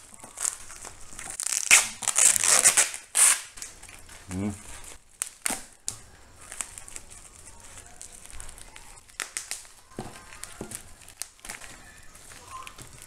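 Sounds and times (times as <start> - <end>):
bubble wrap crinkling and crackling: 0.0 - 13.0.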